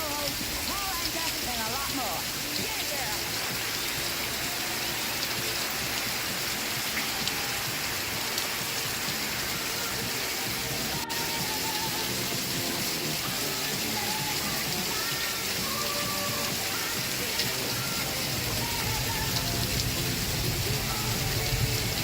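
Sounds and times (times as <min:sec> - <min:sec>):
faint music from television: 0:00.0 - 0:22.0
steady rain hiss: 0:00.0 - 0:22.0.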